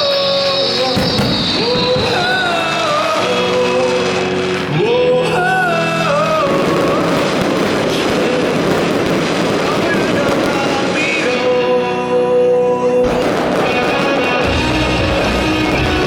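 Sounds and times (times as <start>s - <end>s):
music with sung melody: 0.0s - 16.0s.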